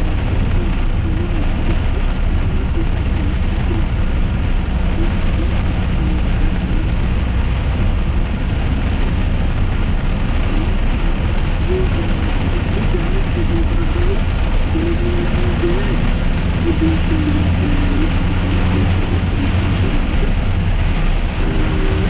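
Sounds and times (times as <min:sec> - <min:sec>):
engine hum and tyres on wet road: 0:00.0 - 0:22.0
rain on a car: 0:00.0 - 0:22.0.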